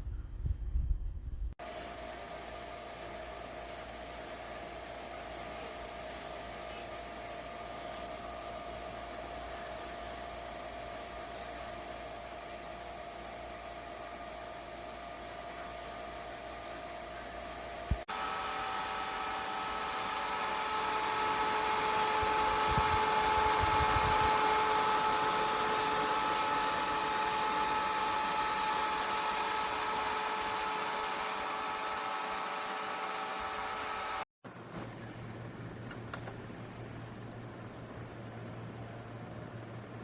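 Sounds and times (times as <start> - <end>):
electric fan motor whirring: 0.0 - 34.3.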